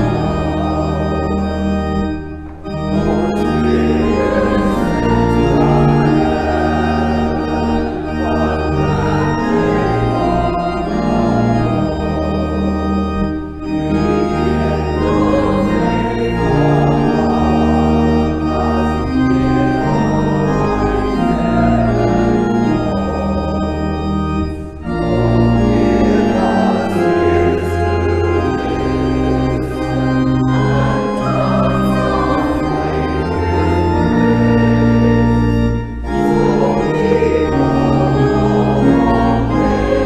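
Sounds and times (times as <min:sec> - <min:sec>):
church organ playing chords: 0:00.0 - 0:40.0.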